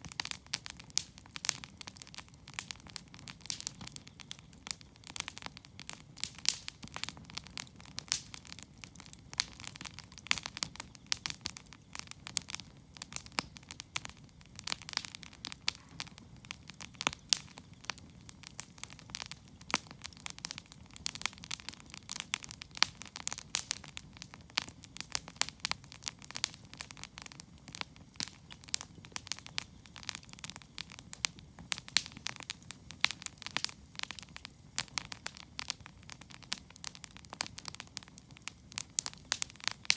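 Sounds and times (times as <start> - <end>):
campfire pops and snaps: 0.0 - 39.9
low rumble of flames: 0.0 - 39.9.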